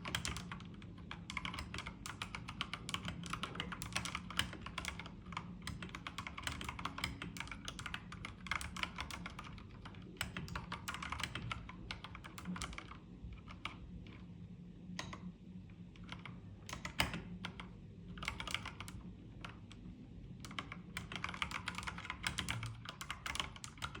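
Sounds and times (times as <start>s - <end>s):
mechanical keyboard typing: 0.0s - 14.2s, 16.0s - 19.8s, 20.4s - 24.0s.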